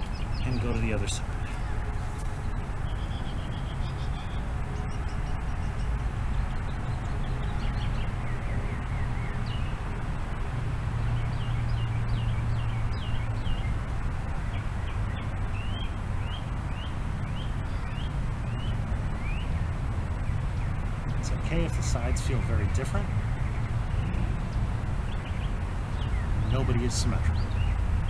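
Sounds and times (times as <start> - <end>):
birds chirping: 0.0 - 28.0
low rumble and hiss: 0.0 - 28.0.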